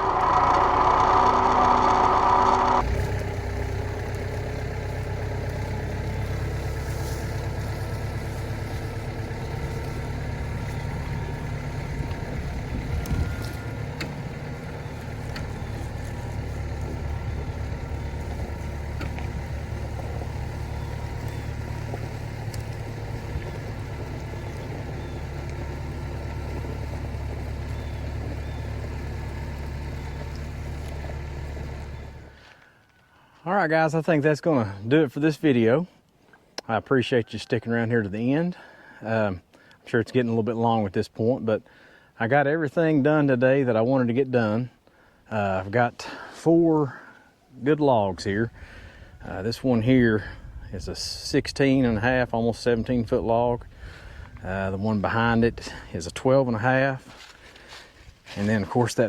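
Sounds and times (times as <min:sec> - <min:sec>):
tractor diesel engine running: 0:00.0 - 0:35.5, 0:41.6 - 0:59.0.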